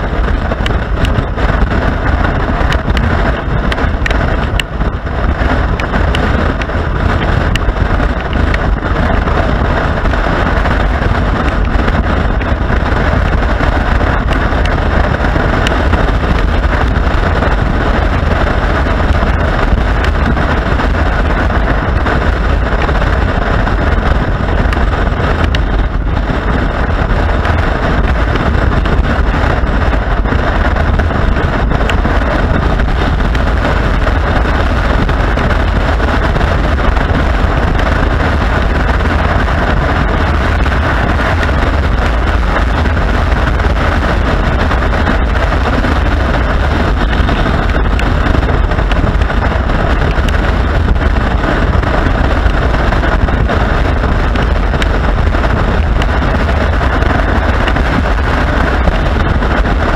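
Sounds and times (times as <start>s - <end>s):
motorcycle engine and road noise: 0.0s - 59.9s
wind rushing over microphone: 0.0s - 59.9s.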